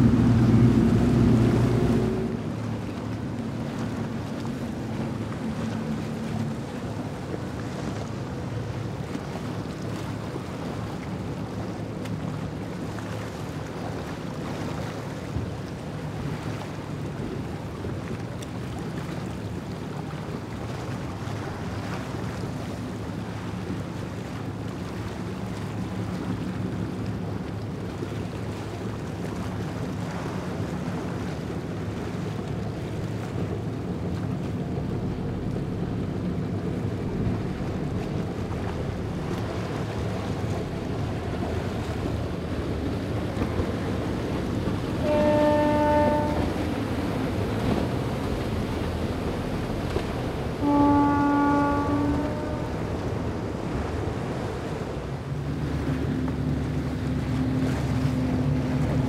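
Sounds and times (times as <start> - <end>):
powerboat engine drone: 0.0 - 59.0
rushing spray and waves: 0.0 - 59.0.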